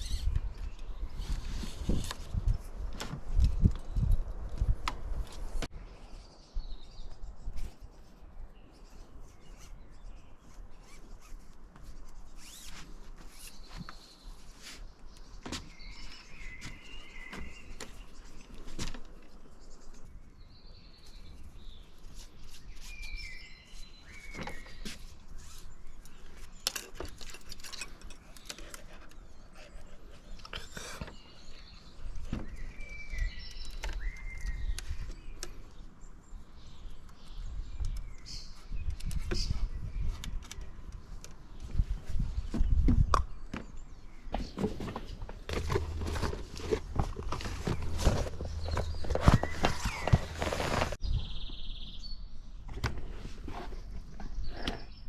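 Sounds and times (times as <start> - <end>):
birds chirping: 8.5 - 55.0.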